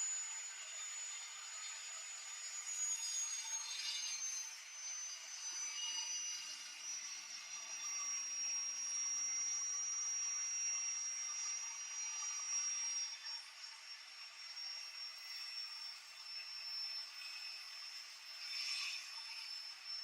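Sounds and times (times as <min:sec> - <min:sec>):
cut-off saw whining: 0:00.0 - 0:20.0.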